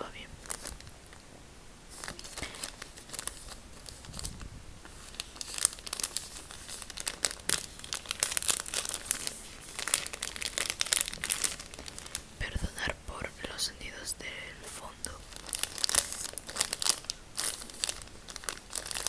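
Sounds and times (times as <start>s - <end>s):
packaging crinkling and tearing: 0.4s - 1.2s, 1.9s - 13.7s, 14.7s - 19.0s.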